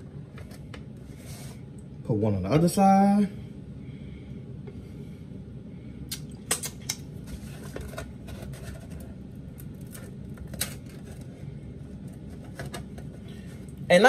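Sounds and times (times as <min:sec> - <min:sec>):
steady low background hum: 0:00.0 - 0:14.0.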